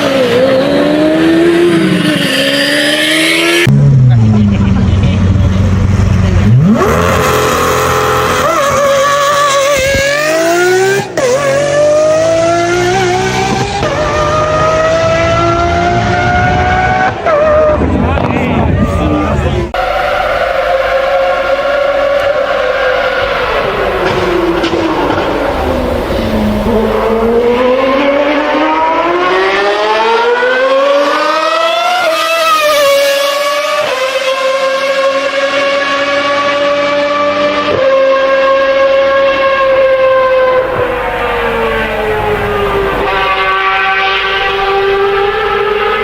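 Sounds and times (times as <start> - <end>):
sports car engine accelerating: 0.0 - 18.3, 19.0 - 46.0.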